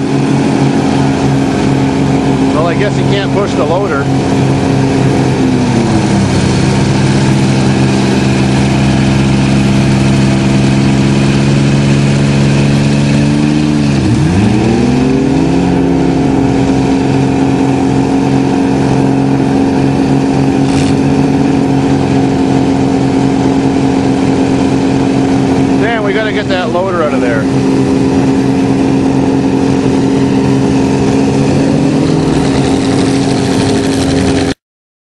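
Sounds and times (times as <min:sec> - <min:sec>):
vehicle engines revving high: 0:00.0 - 0:34.6.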